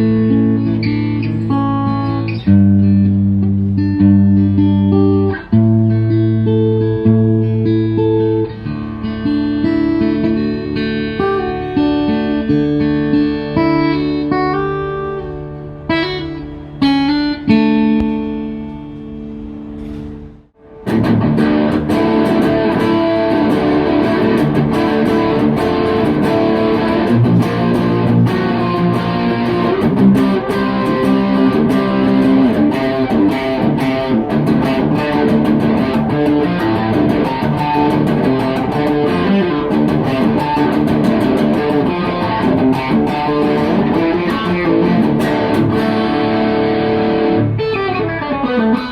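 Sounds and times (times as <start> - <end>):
electric guitar playing: 0.0 - 48.9.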